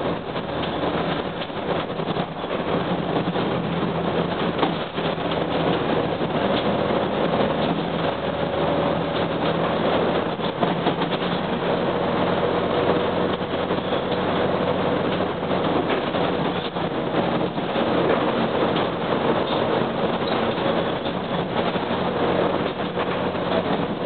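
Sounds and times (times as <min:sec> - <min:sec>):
bus diesel engine running: 0:00.0 - 0:24.0
road noise: 0:00.0 - 0:24.0.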